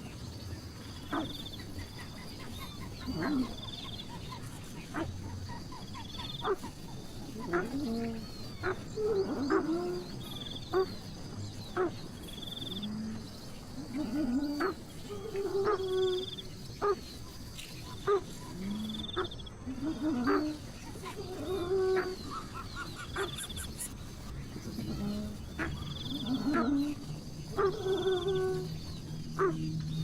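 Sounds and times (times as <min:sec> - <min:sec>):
lower wavering bird calls: 0:00.0 - 0:30.0
high bird trill: 0:01.1 - 0:30.0.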